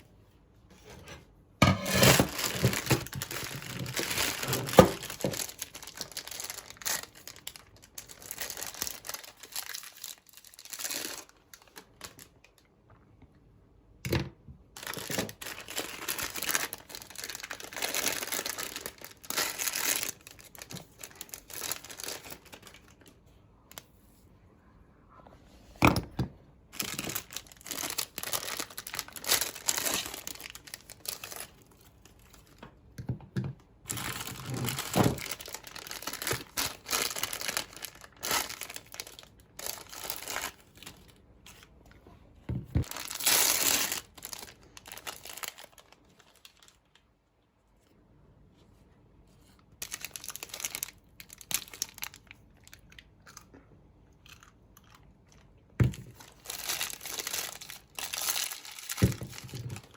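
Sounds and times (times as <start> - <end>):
wrappers crinkling and crunching: 1.8 - 12.7, 14.8 - 23.8, 26.7 - 32.7, 33.8 - 41.9, 42.8 - 47.2, 49.4 - 53.5, 54.2 - 59.9.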